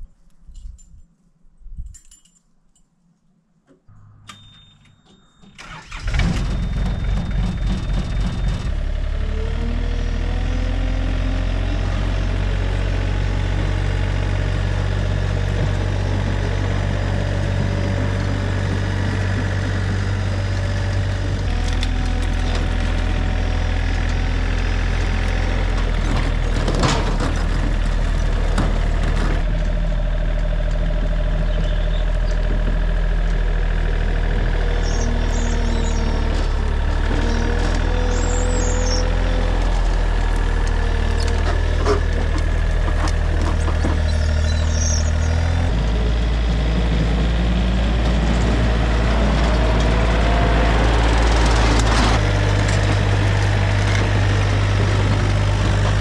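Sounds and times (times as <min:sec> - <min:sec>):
diesel engine cranking and running: 0:05.1 - 0:56.0.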